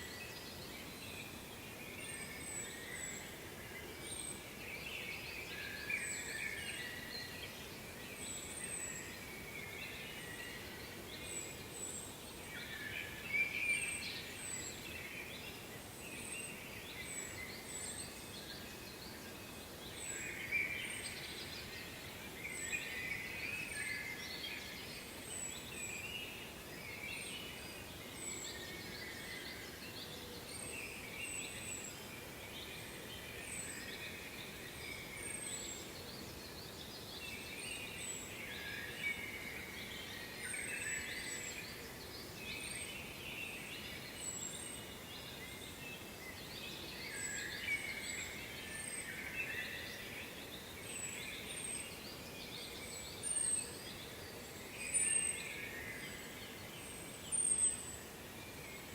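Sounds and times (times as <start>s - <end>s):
faint steady hiss: 0.0s - 58.9s.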